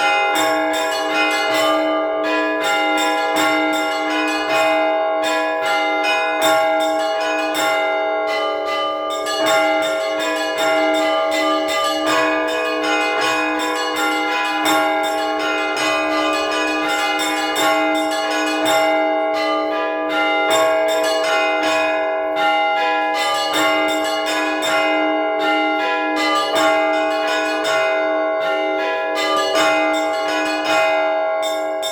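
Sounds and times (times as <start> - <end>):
church bells ringing steadily: 0.0 - 31.9
small church bells struck rapidly: 0.0 - 31.9.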